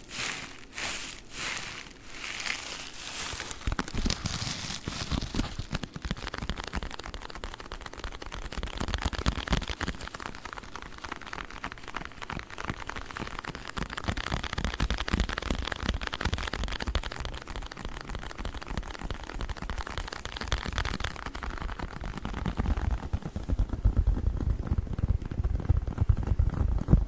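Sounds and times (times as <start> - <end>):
sponge packaging crackling: 0.0 - 27.0.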